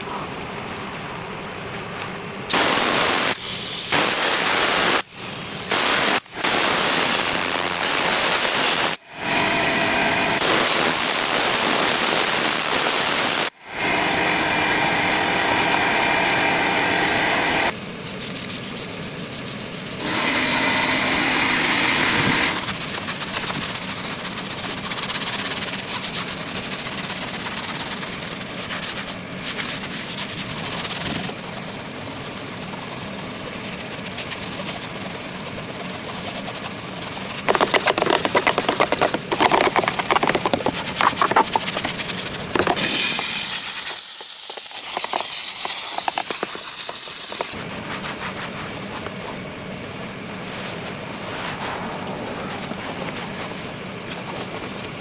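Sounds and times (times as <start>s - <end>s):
hissing spray from cleaning tool: 2.5s - 29.2s, 29.8s - 47.6s.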